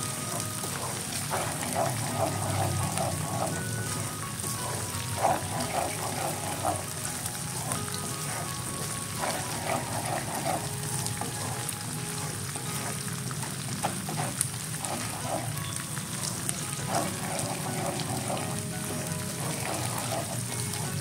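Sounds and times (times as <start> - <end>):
faint background music: 0.0 - 21.0
oil sizzling in a pan: 0.0 - 21.0.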